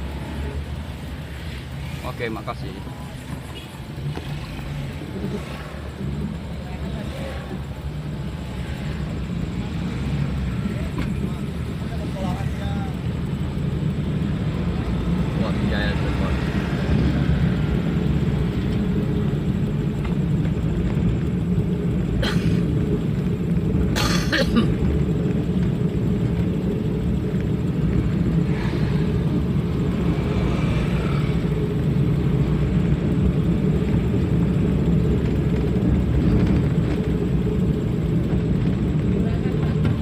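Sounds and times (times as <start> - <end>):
bus engine rumble: 0.0 - 40.0
road noise: 0.0 - 40.0.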